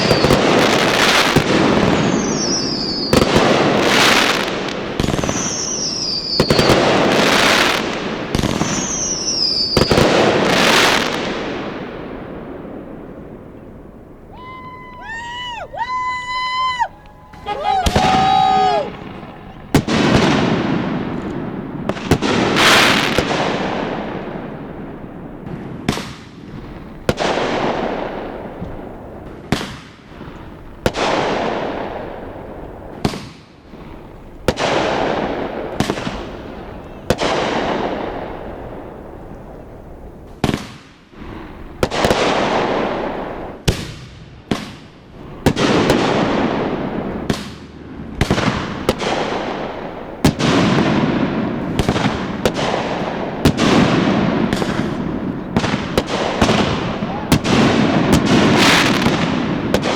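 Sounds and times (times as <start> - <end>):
fireworks bursting with rumble: 0.0 - 59.9.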